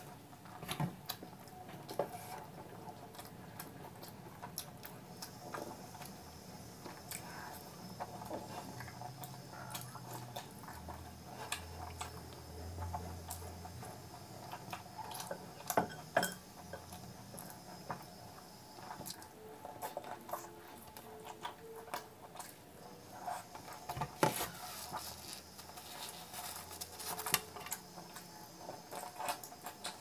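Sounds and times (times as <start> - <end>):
close chewing and mouth clicks: 0.4 - 15.8, 18.8 - 23.9, 24.8 - 30.0.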